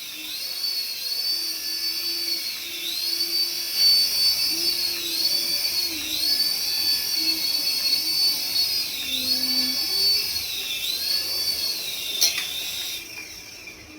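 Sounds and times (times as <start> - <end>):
small electric motor whining: 0.0 - 13.9.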